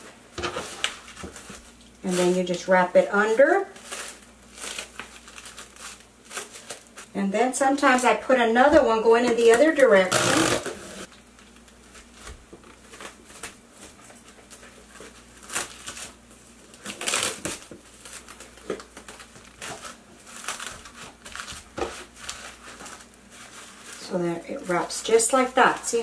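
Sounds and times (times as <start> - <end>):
plastic cling wrap crinkling: 0.4 - 7.2, 9.4 - 26.0.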